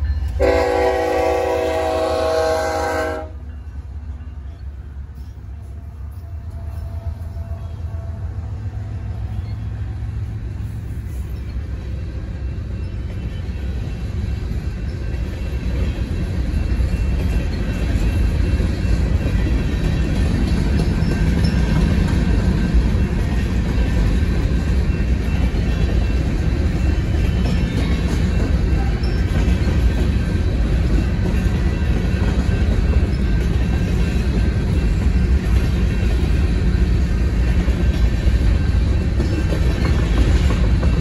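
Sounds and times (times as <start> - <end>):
freight train passing: 0.0 - 41.0
wheel-and-rail rumble: 3.5 - 41.0.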